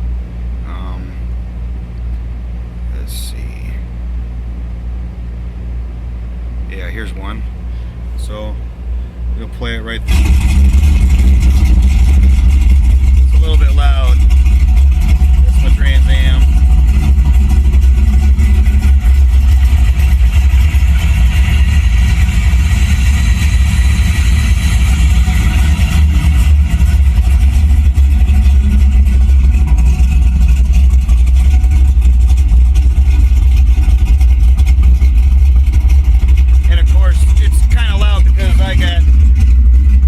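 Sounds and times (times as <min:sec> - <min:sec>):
car engine rumble through speakers: 0:00.0 - 0:40.0.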